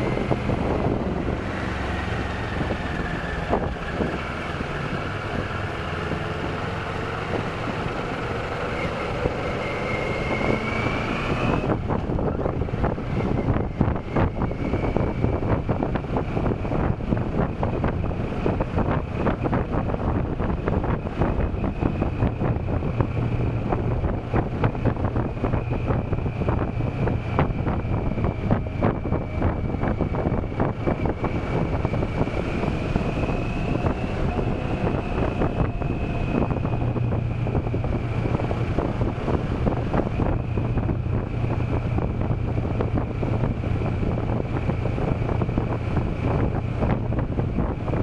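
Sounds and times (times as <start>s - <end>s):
motorcycle engine humming: 0.0s - 48.0s
wind buffeting microphone: 0.0s - 48.0s.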